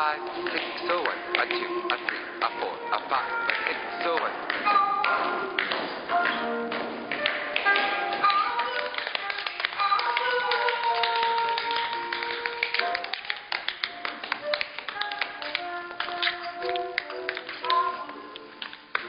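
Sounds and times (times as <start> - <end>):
blues music: 0.0 - 19.0
tap shoes on wooden floor: 0.0 - 19.0.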